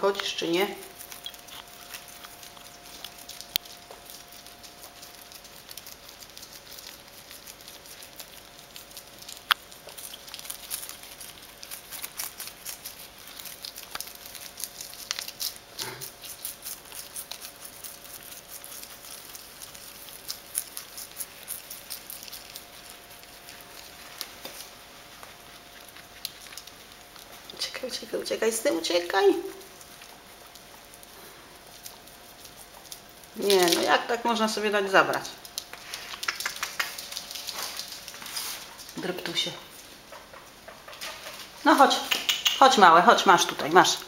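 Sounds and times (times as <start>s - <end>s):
faint steady hum: 0.0s - 44.0s
guinea pigs crunching lettuce: 0.0s - 44.0s.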